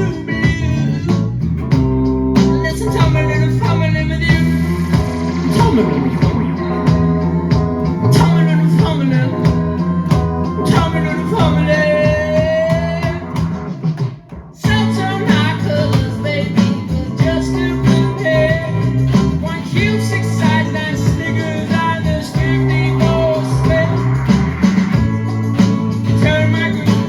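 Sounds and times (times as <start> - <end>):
acoustic guitar strumming: 0.0 - 13.8, 14.7 - 27.0
lead melody line: 0.0 - 13.9, 14.7 - 27.0.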